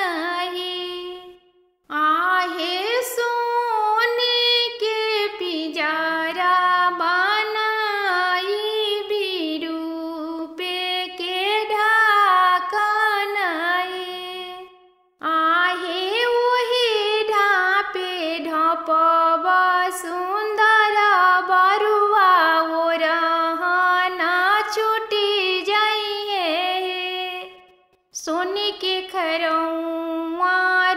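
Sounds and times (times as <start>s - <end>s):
woman singing folk song unaccompanied: 0.0s - 30.9s.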